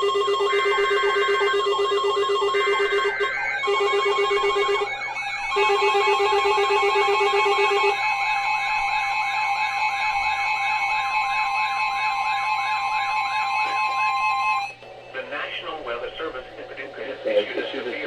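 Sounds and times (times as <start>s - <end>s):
steady electronic tone: 0.0s - 16.6s.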